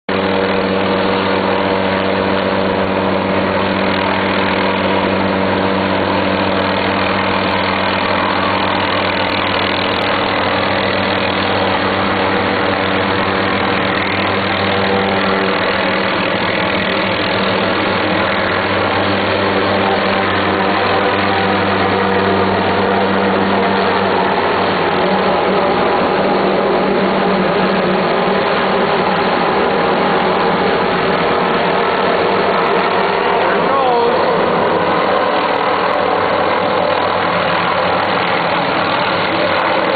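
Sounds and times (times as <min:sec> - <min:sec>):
helicopter engine and rotor drone: 0:00.1 - 0:39.9.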